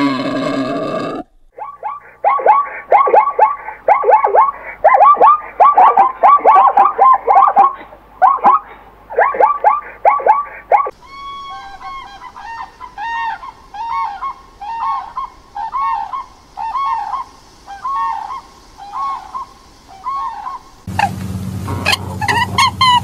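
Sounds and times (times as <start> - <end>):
crane trumpeting calls: 0.0 - 23.0
zebras yelping: 0.0 - 23.0.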